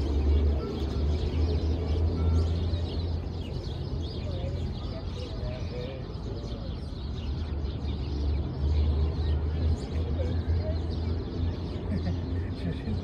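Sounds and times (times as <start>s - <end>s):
low city hum: 0.0s - 13.0s
small birds chirping: 0.0s - 13.0s.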